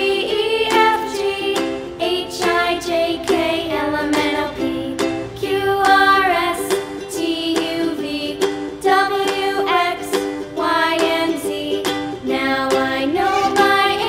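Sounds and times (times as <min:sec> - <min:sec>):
children's song with beat: 0:00.0 - 0:14.0.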